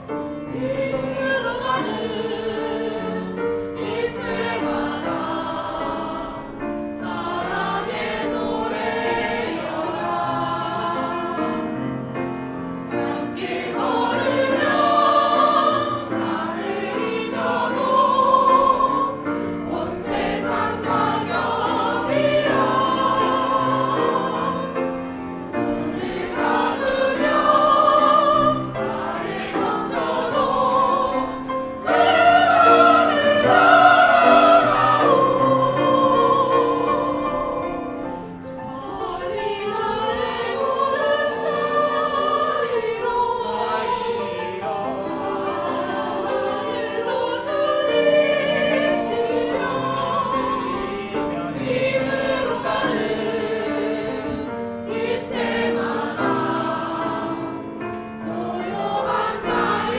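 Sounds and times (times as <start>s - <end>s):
youth choir singing: 0.0s - 59.9s.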